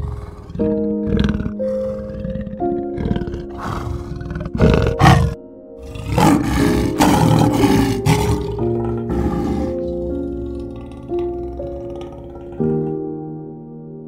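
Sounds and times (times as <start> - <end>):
big cat roaring and growling: 0.0 - 13.0
background music sustained tones: 0.0 - 14.0.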